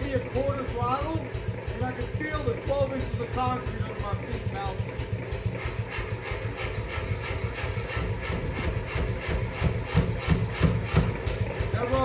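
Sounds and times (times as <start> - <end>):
power hammer blows: 1.8 - 12.0.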